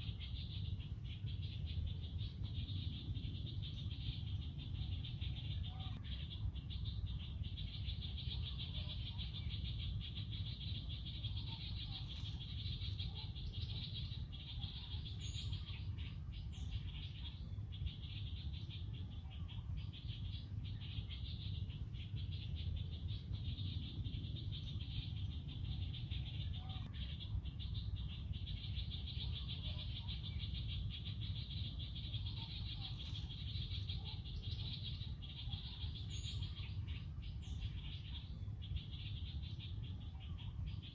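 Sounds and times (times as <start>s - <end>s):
high bird chirps: 0.0s - 40.9s.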